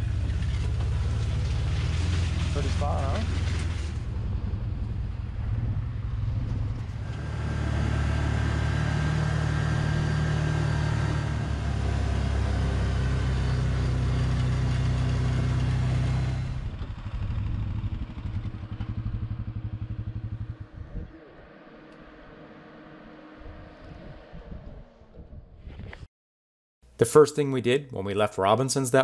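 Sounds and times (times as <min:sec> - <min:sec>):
engine running under way: 0:00.0 - 0:25.3.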